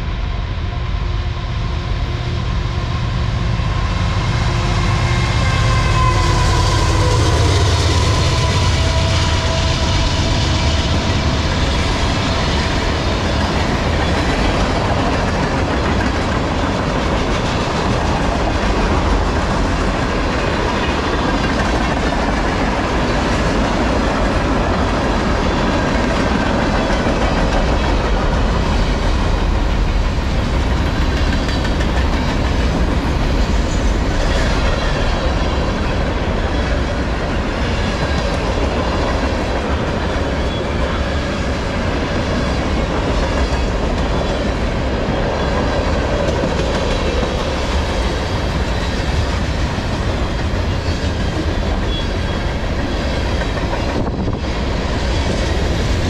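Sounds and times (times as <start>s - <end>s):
steel wheels running on rails: 2.0s - 56.0s.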